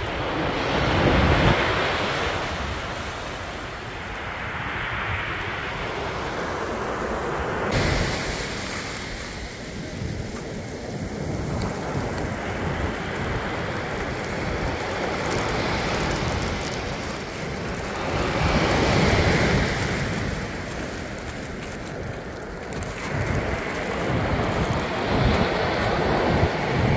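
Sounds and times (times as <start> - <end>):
ocean surf washing: 0.0 - 26.9
wind rumble on microphone: 0.0 - 26.9.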